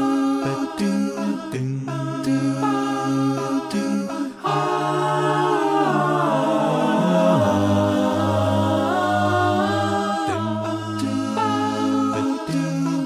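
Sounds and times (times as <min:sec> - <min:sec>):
a cappella voices singing chords: 0:00.0 - 0:13.0.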